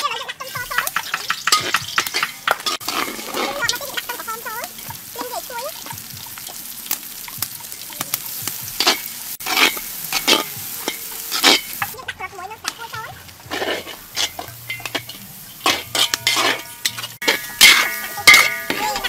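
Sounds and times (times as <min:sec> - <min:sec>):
metal spatula scraping wok: 0:00.0 - 0:19.0
shallots sizzling in oil: 0:00.0 - 0:19.0.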